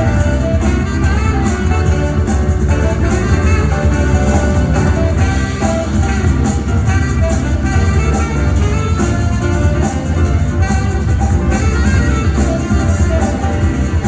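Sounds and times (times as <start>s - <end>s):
bass: 0.0s - 14.0s
drums: 0.0s - 14.0s
piano: 0.0s - 14.0s
saxophone: 0.0s - 14.0s.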